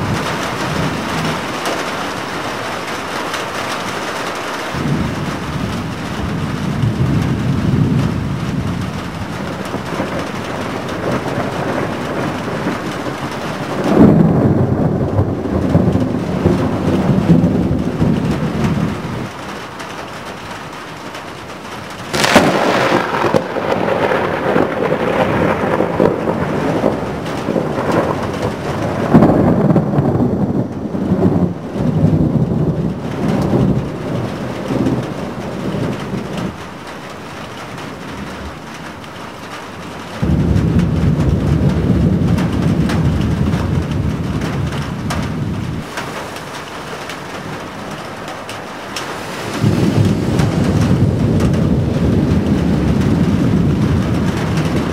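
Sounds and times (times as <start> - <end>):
steady rain: 0.0 - 54.9
thunder rolling: 0.0 - 54.9.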